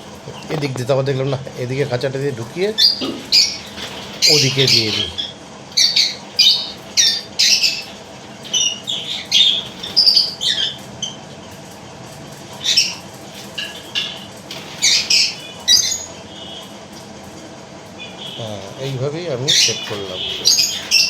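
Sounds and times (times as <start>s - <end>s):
lovebirds squawking and chirping: 0.0s - 21.0s.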